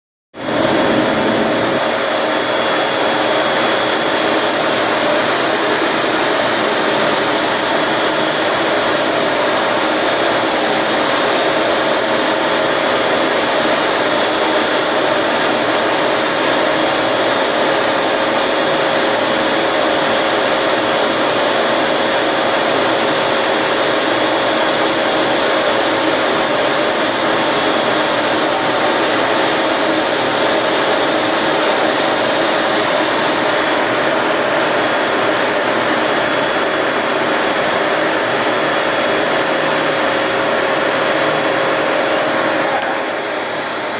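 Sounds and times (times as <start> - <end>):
vacuum cleaner running: 0.4 - 43.9.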